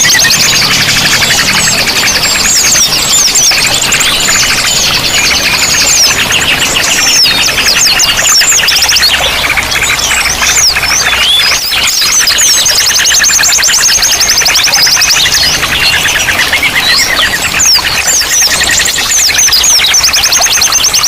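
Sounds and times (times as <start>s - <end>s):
chorus of songbirds: 0.0s - 21.0s.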